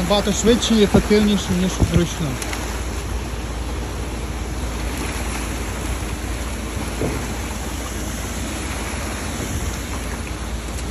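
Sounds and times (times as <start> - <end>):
water gushing from pipe: 0.0 - 10.9.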